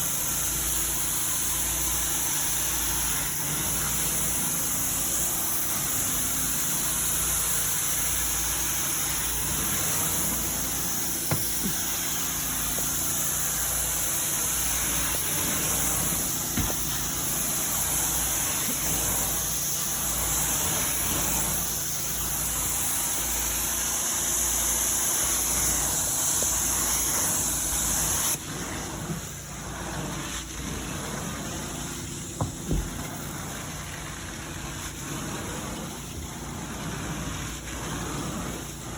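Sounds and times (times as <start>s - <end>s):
carpet cleaning vacuum running: 0.0s - 38.9s.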